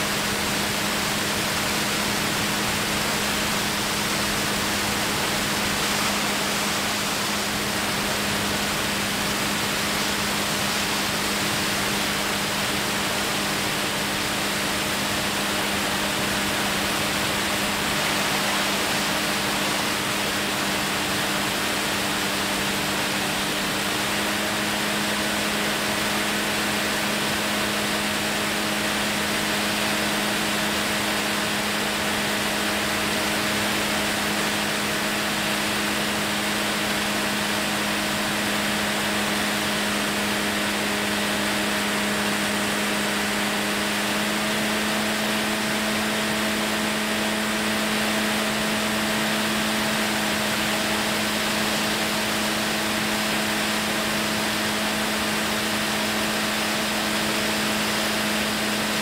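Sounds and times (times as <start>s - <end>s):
aircraft engine humming: 0.0s - 59.0s.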